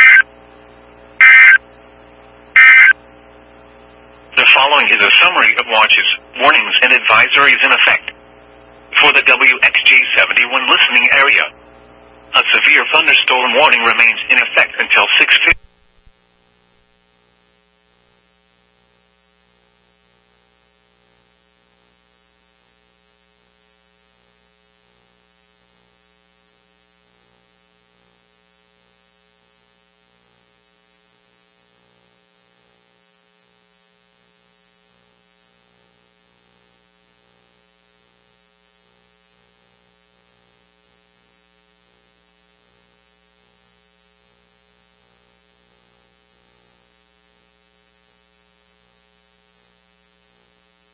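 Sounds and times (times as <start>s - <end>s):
faint electrical hum: 0.0s - 50.9s.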